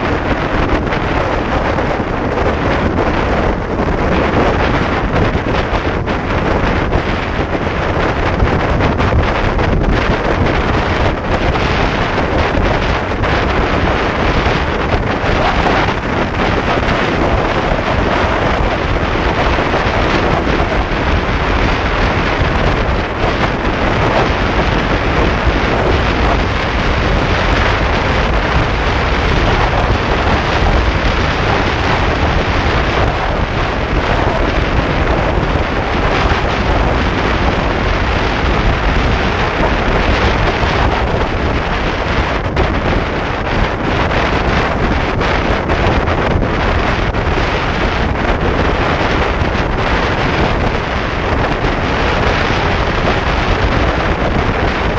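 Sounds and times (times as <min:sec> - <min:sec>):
wind noise on microphone: 0:00.0 - 0:54.9.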